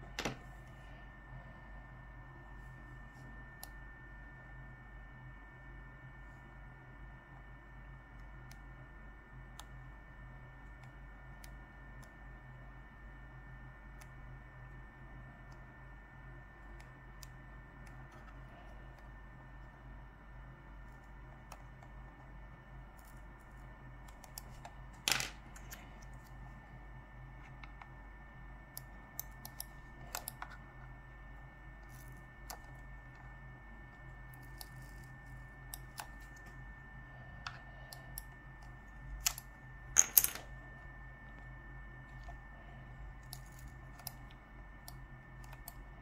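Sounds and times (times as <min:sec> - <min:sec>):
faint electrical hum: 0:00.0 - 0:46.0.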